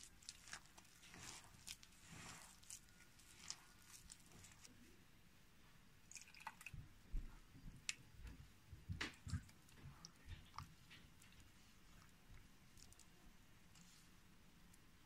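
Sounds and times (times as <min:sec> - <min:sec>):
wet batter squelching: 0:00.0 - 0:05.0, 0:06.0 - 0:14.8.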